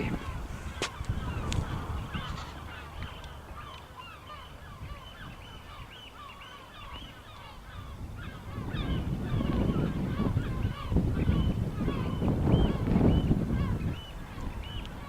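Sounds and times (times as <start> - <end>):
flock of birds honking: 0.0 - 15.0.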